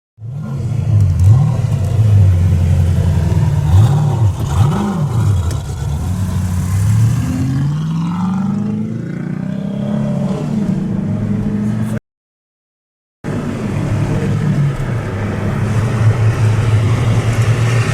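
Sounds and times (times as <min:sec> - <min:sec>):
engine revving: 0:00.2 - 0:12.0, 0:13.3 - 0:17.9.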